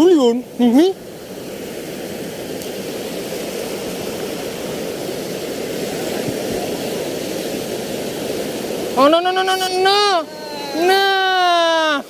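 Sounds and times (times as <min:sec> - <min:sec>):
sea surf washing: 0:00.0 - 0:12.0.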